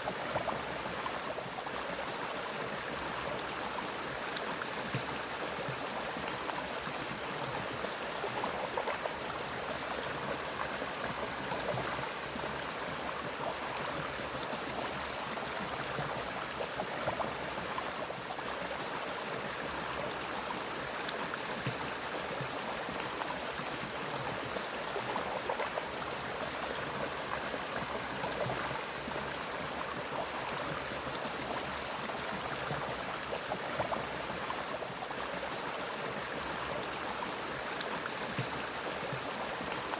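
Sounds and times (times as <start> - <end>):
stream flowing and gurgling: 0.0 - 39.9.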